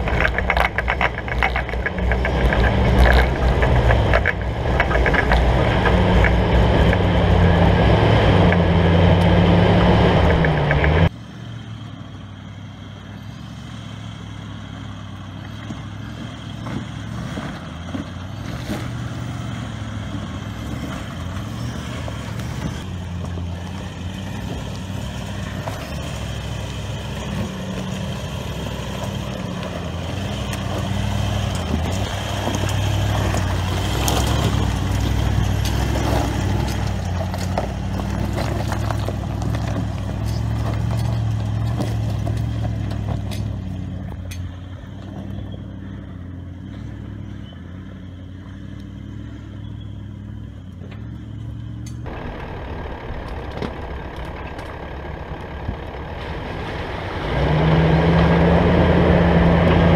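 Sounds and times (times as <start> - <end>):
tyres crunching over stones: 0.0 - 7.6, 14.8 - 57.9
engine running at low revs: 0.0 - 59.9.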